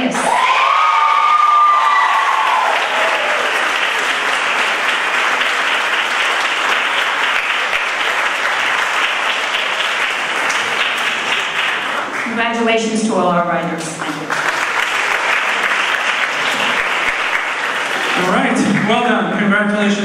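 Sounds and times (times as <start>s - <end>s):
audience applauding: 0.1s - 12.8s, 13.8s - 19.2s.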